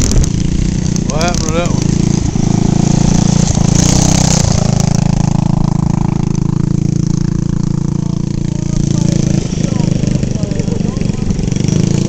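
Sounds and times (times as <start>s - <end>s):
go-kart engine running: 0.0s - 12.0s.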